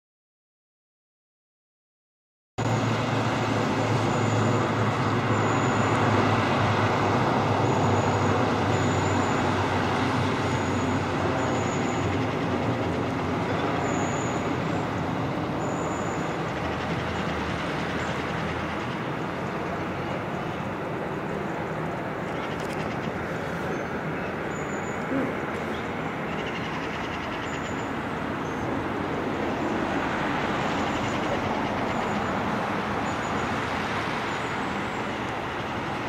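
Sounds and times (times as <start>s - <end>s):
train rumbling: 2.6s - 36.0s.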